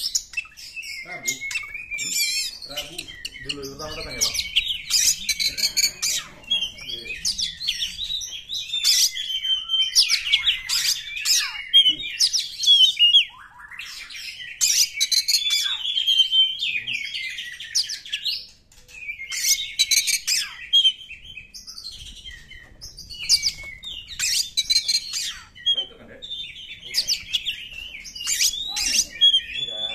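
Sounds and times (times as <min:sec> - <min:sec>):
bird singing: 0:00.0 - 0:29.9.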